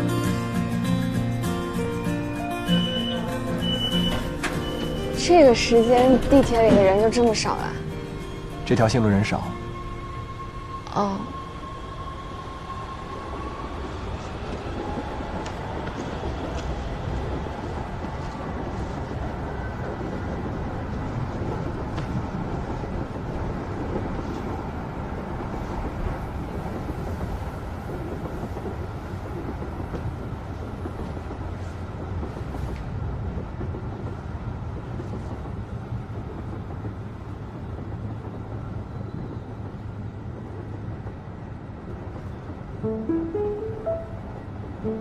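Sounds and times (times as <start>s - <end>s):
subway train rumbling: 0.0s - 45.0s.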